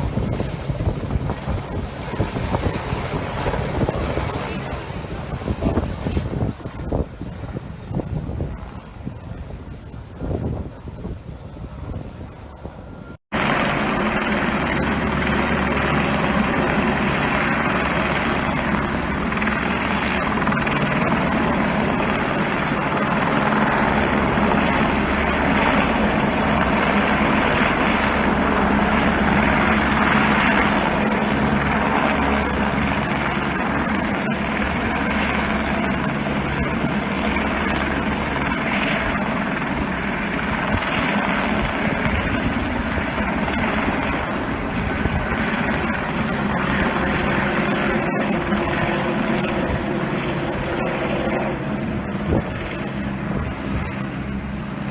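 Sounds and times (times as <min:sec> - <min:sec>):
helicopter rotor drone: 0:00.0 - 0:54.9.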